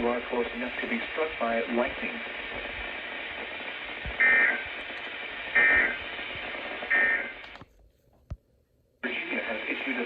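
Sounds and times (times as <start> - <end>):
radio hiss: 0.0 - 7.6, 9.0 - 10.0.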